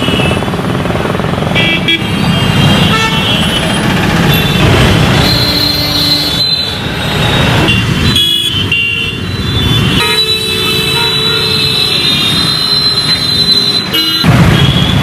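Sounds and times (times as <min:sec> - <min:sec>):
vehicles passing: 0:00.0 - 0:15.0
car horns honking: 0:01.6 - 0:15.0.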